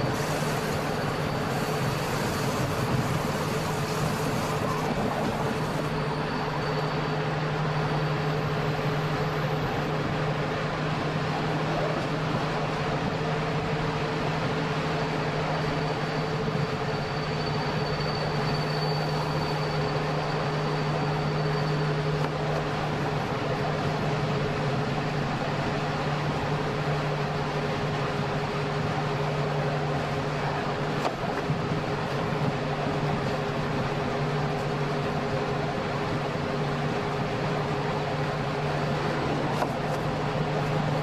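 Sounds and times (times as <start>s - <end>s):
train rolling on rails: 0.0s - 41.0s.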